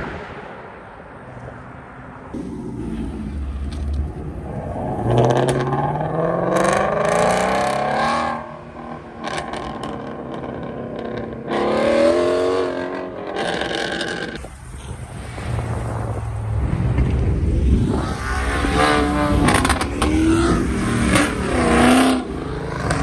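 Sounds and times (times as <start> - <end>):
car engine revving: 2.4 - 23.0.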